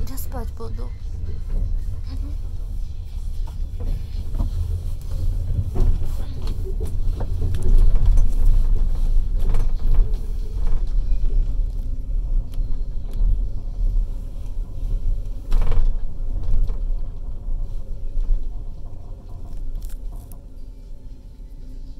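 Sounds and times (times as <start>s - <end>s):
passenger train rumbling: 0.0s - 21.9s.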